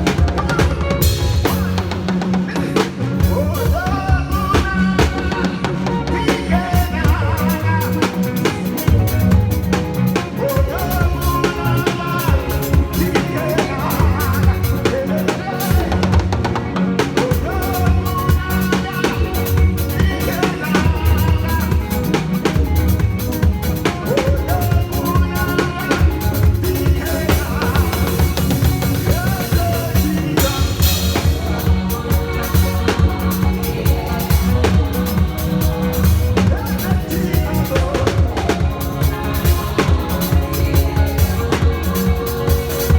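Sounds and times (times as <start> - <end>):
church praise music: 0.0 - 42.9
drum kit bass drum snare and rimshots: 0.0 - 42.9.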